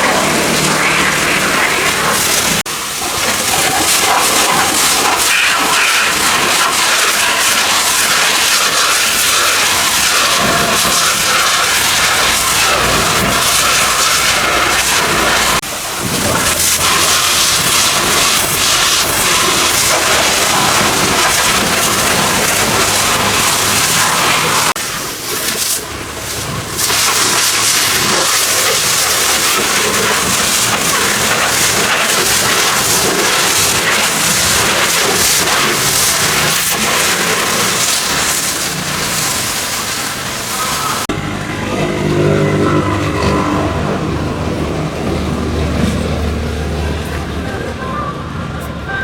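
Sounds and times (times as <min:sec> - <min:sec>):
pressure washer spraying: 0:00.0 - 0:47.5.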